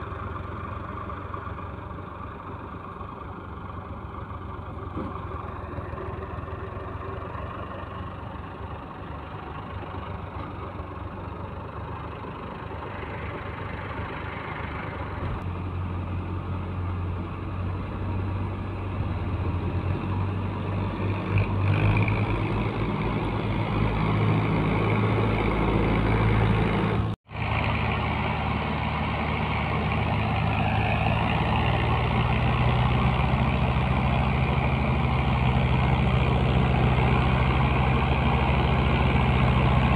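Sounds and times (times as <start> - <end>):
tractor diesel engine labouring: 0.0 - 39.9.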